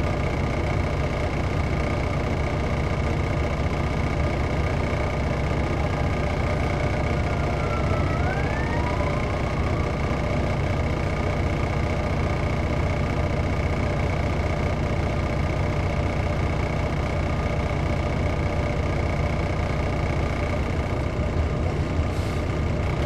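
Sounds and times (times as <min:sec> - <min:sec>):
diesel bus engine idling: 0:00.0 - 0:23.0.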